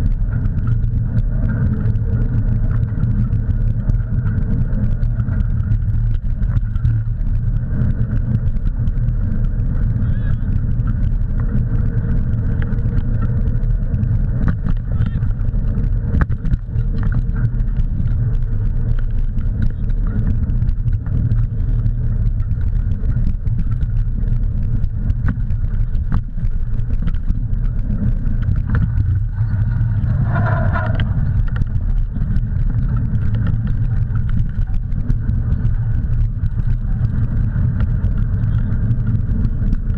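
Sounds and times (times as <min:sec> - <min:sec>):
bike tyres rolling on dirt: 0:00.0 - 0:39.9
wind buffeting microphone: 0:00.0 - 0:39.9.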